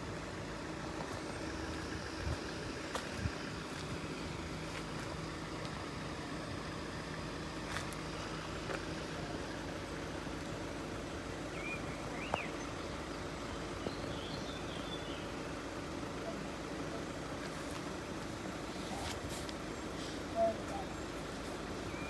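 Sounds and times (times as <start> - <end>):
constant low hum: 0.0 - 22.0
vehicles idling: 0.0 - 22.0.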